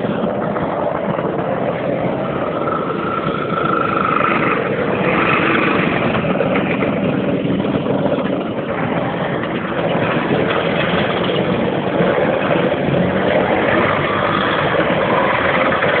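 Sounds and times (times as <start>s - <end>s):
motor scooter engines revving: 0.0s - 16.0s.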